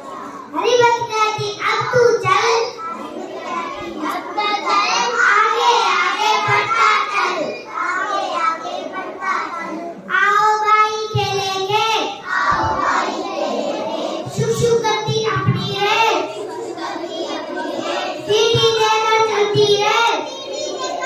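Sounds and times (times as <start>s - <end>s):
child singing: 0.0s - 21.0s.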